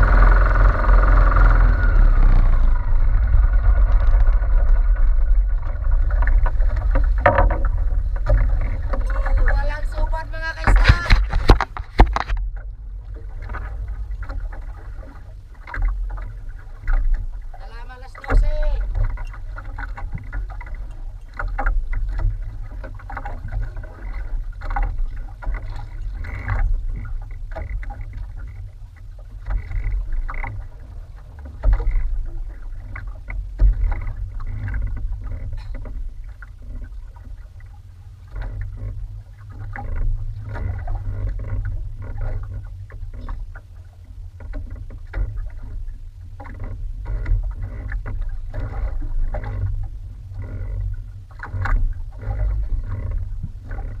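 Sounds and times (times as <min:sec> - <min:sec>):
water splashing against hull: 0:00.0 - 0:54.0
wind rumbling on microphone: 0:00.0 - 0:54.0.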